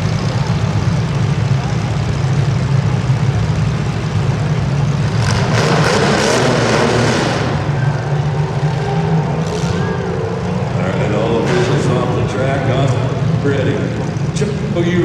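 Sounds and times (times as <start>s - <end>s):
car engines humming: 0.0s - 15.0s
loud rush of noise: 0.0s - 15.0s.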